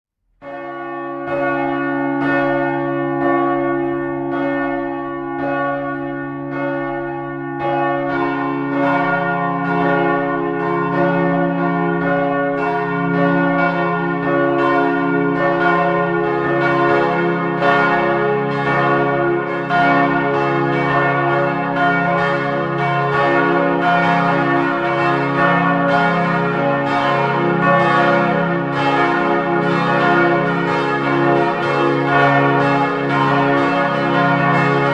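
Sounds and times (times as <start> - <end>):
church bells ringing: 0.4 - 34.9.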